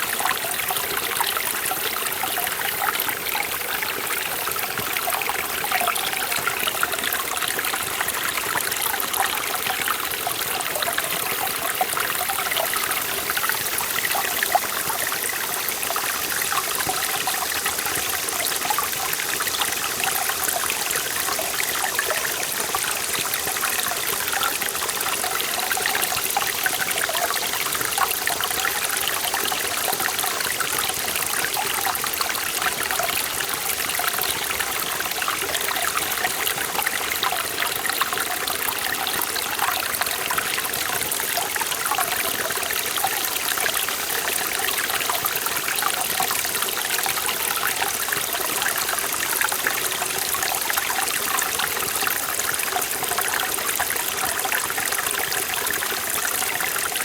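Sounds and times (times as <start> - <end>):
stream water running over rocks: 0.0 - 57.0.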